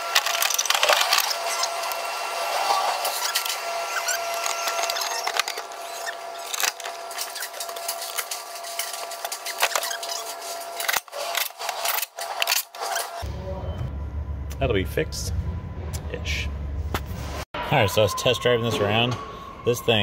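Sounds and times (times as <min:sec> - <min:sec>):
high-pitched electric whine: 0:00.0 - 0:20.0.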